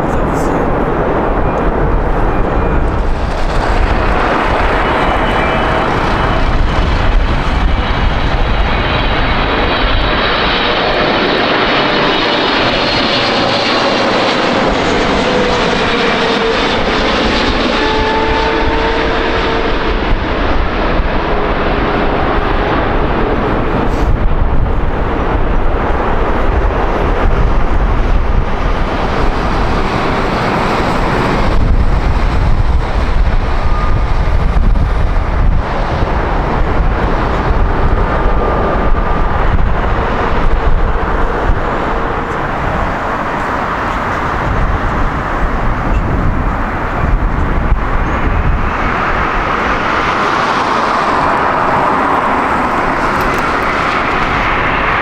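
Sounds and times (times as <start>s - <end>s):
deep rumble: 0.0s - 55.0s
jet airliner engines whining: 0.0s - 55.0s.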